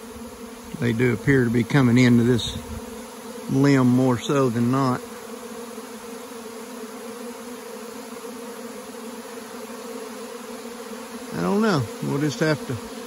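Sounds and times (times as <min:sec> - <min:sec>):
bee swarm humming: 0:00.0 - 0:13.0.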